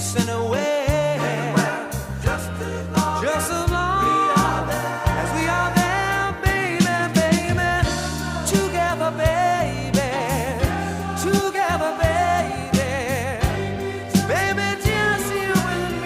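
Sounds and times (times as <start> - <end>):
song with singing over drums: 0.1 - 16.0.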